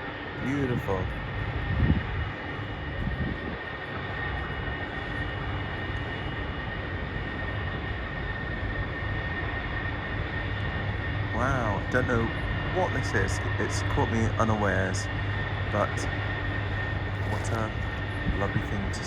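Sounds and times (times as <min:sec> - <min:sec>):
high whine: 0:00.0 - 0:19.0
low rumble and hiss: 0:00.0 - 0:19.0.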